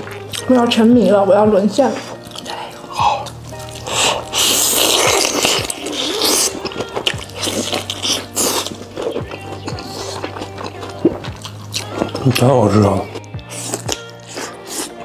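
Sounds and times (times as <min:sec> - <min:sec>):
noodles slurped: 0:02.2 - 0:15.0.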